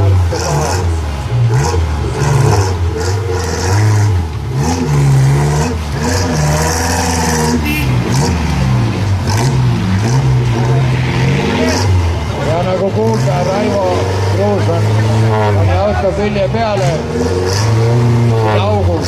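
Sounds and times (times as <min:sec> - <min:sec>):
off-road engine revving: 0:00.0 - 0:19.0.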